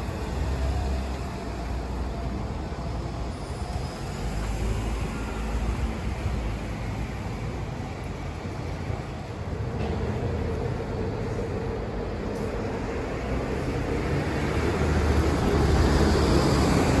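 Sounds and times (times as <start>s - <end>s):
rumble of passing vehicles: 0.0s - 17.0s.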